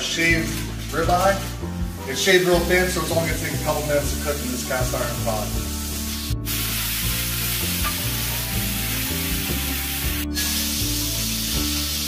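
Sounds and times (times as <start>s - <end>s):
background music: 0.0s - 12.0s
meat sizzling in pan: 0.3s - 12.0s.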